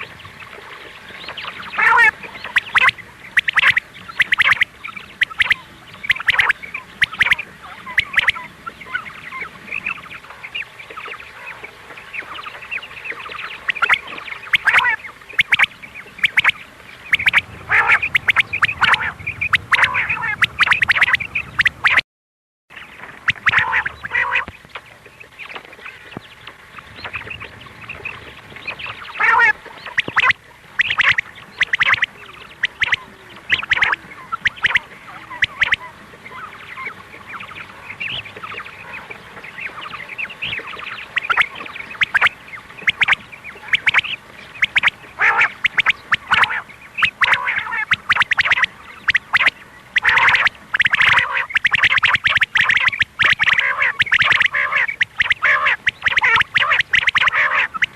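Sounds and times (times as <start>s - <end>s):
quail calling: 0.0s - 22.0s, 23.2s - 24.6s, 26.8s - 57.9s.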